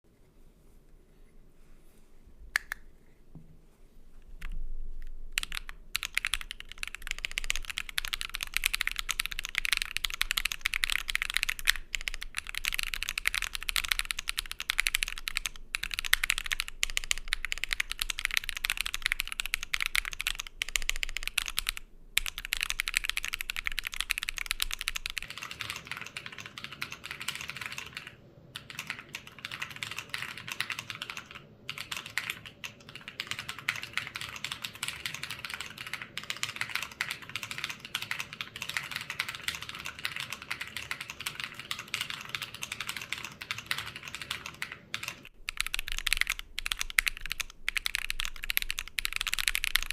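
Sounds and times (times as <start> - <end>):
mechanical keyboard typing: 5.3 - 49.9.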